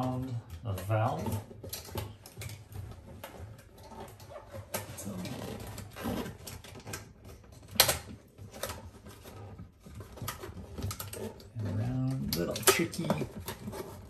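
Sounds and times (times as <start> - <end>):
plastic rustling: 0.0 - 14.0.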